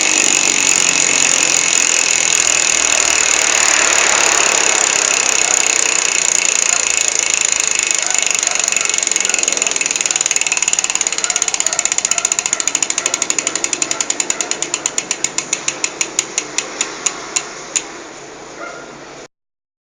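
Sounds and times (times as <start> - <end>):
bicycle hub freewheel clicking: 0.0 - 17.9.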